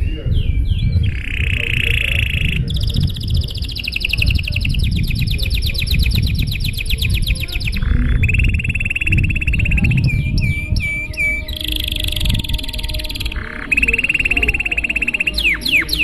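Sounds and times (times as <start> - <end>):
canary singing: 0.0 - 16.0
low rumble: 0.0 - 16.0.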